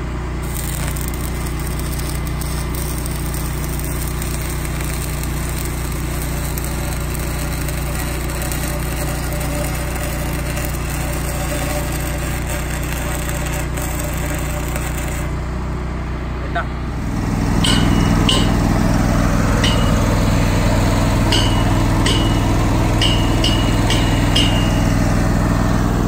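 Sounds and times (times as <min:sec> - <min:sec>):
welding arc crackling: 0:00.4 - 0:15.5, 0:17.0 - 0:25.6.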